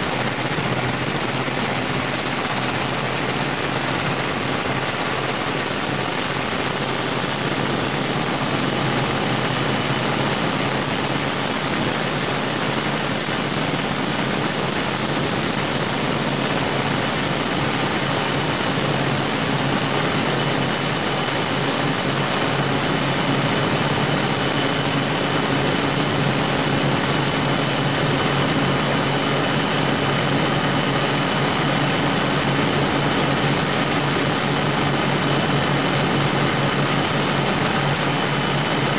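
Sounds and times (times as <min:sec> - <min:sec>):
high whine: 0:00.0 - 0:38.9.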